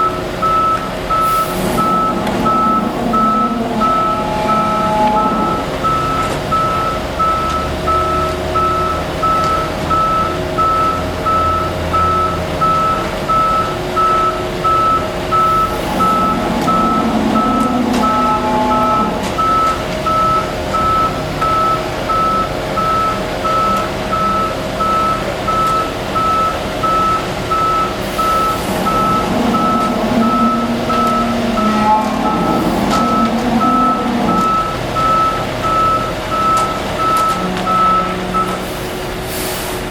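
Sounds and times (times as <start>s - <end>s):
reversing alarm beeping: 0.0s - 39.0s
truck engine running: 0.0s - 39.9s.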